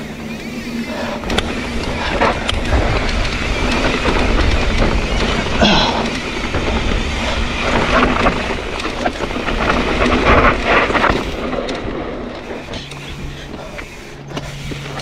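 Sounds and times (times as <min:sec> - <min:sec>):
bike rattling over bumps: 0:00.0 - 0:15.0
bike tyres on dirt and rock: 0:00.0 - 0:15.0.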